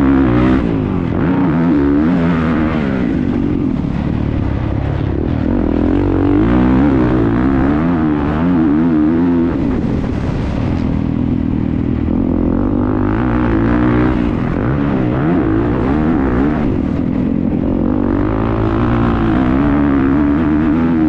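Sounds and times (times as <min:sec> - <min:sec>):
motocross bike engine revving: 0:00.0 - 0:21.0
wind noise: 0:00.0 - 0:21.0.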